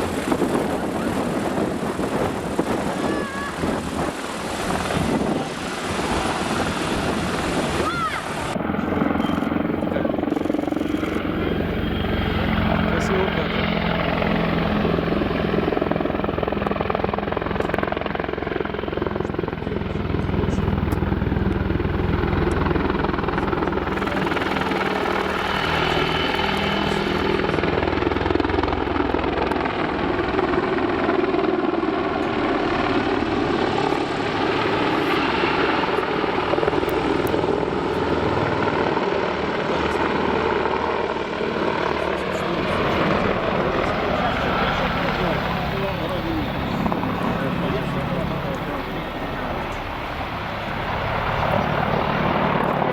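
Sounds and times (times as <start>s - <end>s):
helicopter rotor noise: 0.0s - 52.9s.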